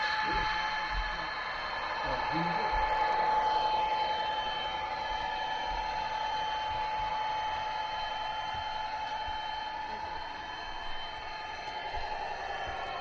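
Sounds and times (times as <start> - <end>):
model train whine: 0.0 - 13.0.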